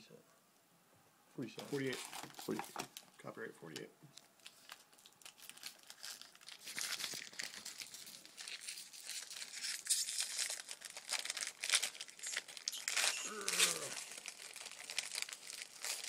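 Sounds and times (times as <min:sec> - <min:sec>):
card pack wrapper tearing and crinkling: 0:01.6 - 0:03.0, 0:04.2 - 0:16.0.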